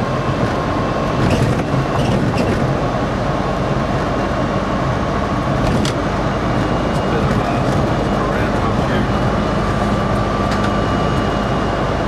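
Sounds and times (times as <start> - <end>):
tyre and wind drone in car: 0.0 - 12.0.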